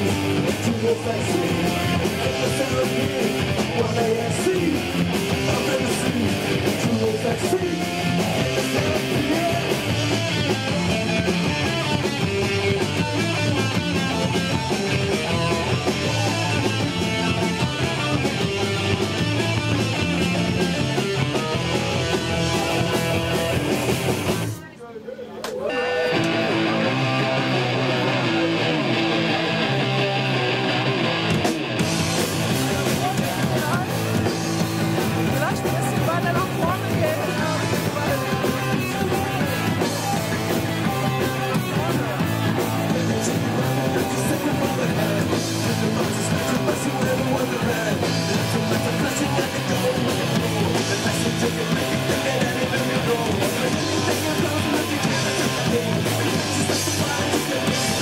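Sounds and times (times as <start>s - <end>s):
rock band playing live: 0.0s - 24.7s, 25.5s - 58.0s.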